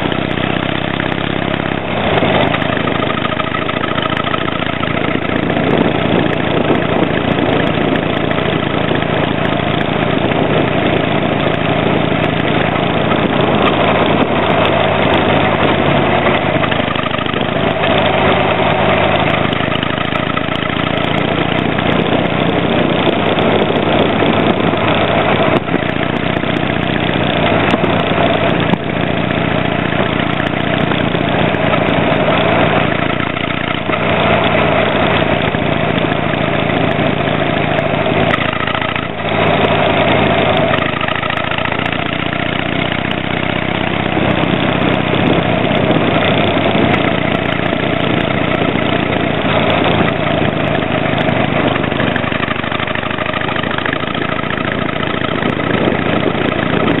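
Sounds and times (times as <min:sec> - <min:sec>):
motorcycle exhaust running: 0:00.0 - 0:57.0.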